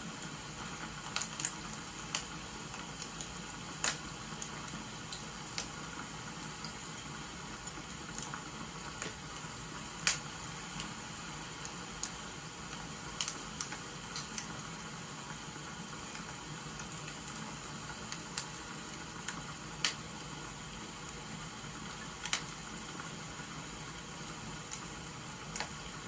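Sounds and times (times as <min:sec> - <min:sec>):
rain hissing: 0:00.0 - 0:26.0
wood fire crackling: 0:00.0 - 0:26.0.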